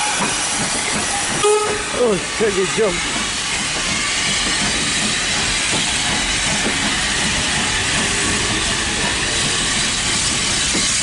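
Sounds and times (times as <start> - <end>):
steam hissing: 0.0 - 11.0
train rolling rumble: 0.0 - 11.0.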